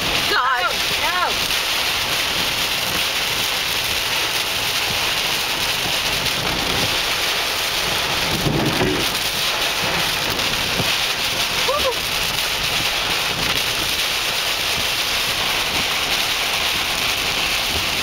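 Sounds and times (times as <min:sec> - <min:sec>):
torrential rain pounding on a car: 0:00.0 - 0:18.0.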